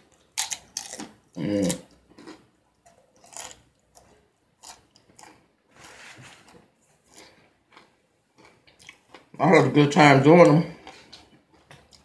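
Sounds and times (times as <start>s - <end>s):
person chewing: 0.0s - 9.4s, 10.4s - 12.0s.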